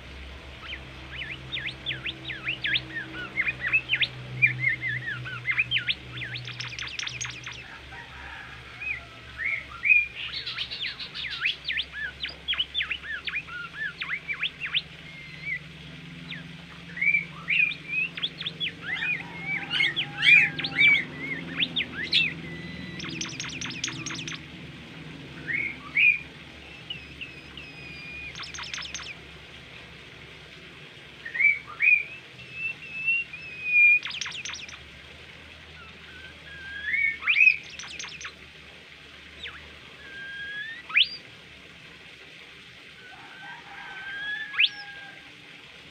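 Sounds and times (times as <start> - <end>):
songbird singing: 0.0 - 24.6, 25.3 - 29.2, 31.2 - 34.9, 35.6 - 38.4, 39.4 - 41.3, 43.0 - 45.1.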